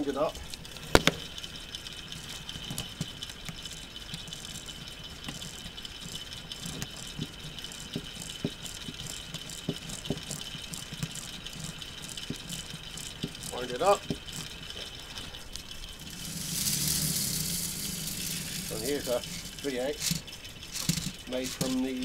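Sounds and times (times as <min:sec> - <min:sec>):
clockwork motor whine: 0:00.0 - 0:22.0
plastic gears clicking rattle: 0:00.0 - 0:22.0.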